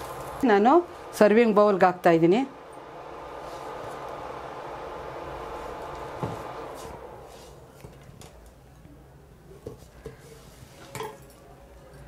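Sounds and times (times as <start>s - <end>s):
background hiss: 0.0s - 11.6s.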